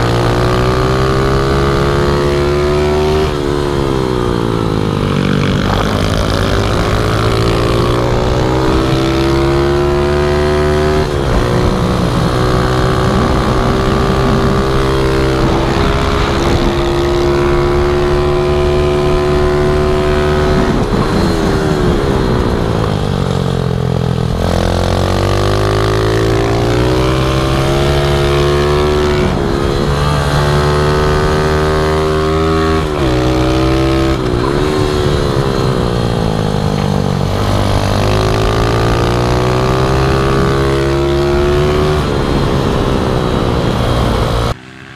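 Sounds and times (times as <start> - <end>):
pit bike engine running hard: 0.0 - 44.9.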